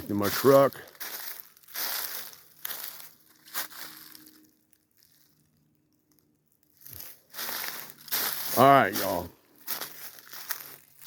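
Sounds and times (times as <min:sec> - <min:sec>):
footsteps crunching dry leaves: 0:00.0 - 0:05.6, 0:06.8 - 0:11.0.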